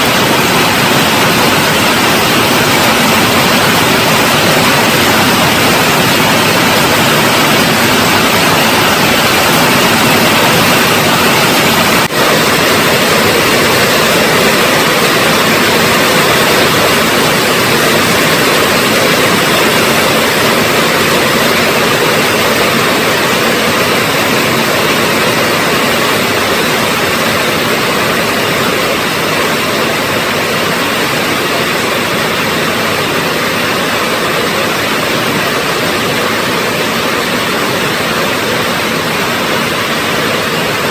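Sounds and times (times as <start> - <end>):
rain falling steadily: 0.0 - 40.9.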